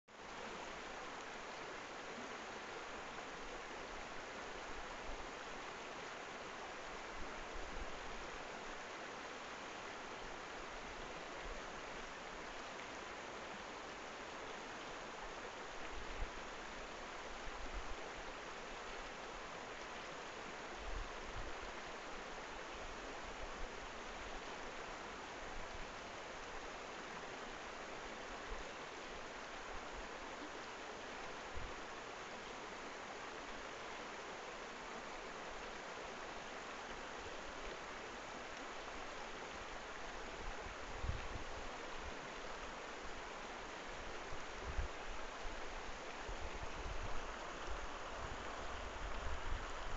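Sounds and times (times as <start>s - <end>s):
river flowing over stones: 0.1s - 49.9s.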